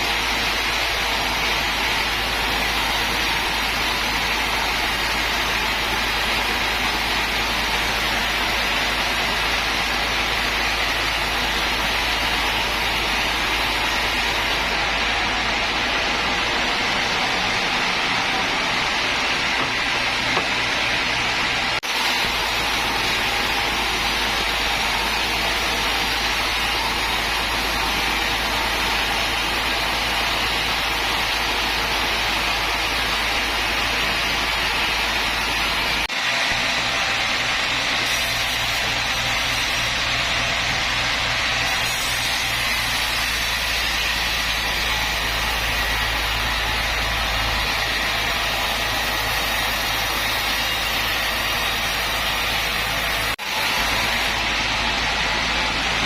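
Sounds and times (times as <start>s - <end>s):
sawmill machinery hissing: 0.0s - 56.0s.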